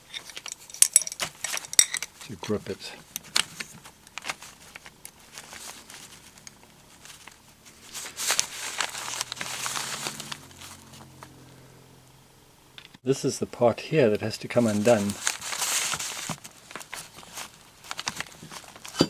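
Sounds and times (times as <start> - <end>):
rustling and scraping handling: 0.0 - 11.5, 14.1 - 19.0.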